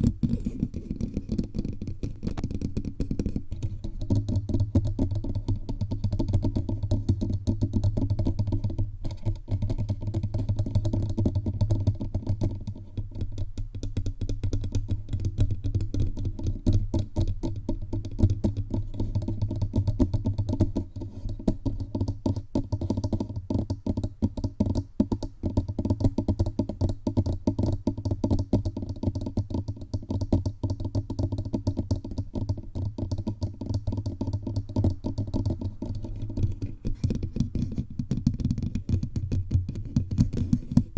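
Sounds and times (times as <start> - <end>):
fingertips tapping microphone: 0.0 - 40.9.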